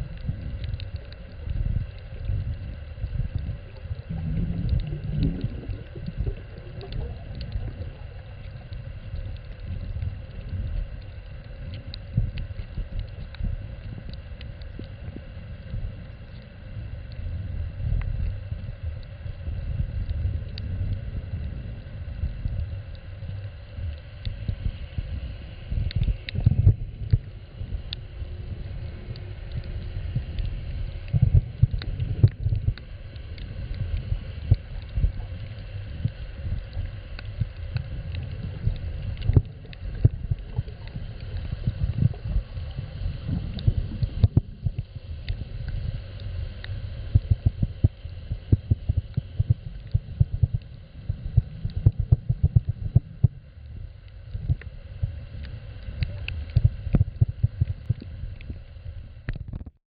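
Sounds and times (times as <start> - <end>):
underwater clicks and crackles: 0.0 - 59.8
underwater rumble: 0.0 - 59.8.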